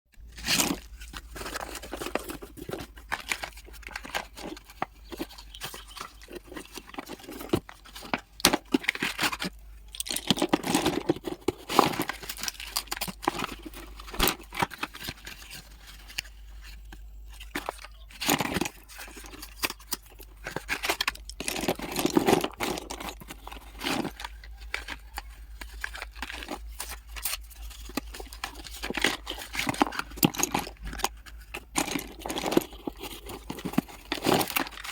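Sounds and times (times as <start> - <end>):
rustles: 0.1 - 34.9
packaging tearing and crinkling: 0.2 - 16.7, 17.3 - 34.9.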